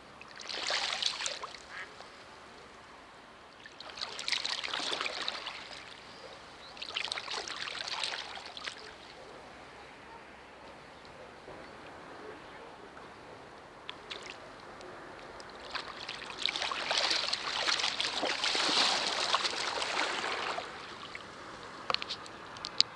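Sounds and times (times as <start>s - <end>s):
water splashing and sloshing: 0.0s - 9.6s, 11.1s - 22.9s
faint trickle of water: 0.0s - 22.9s.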